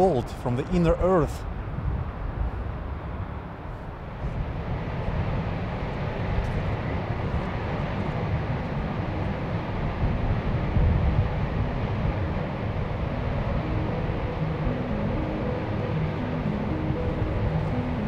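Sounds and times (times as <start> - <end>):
volcanic vent roaring: 0.0 - 18.0.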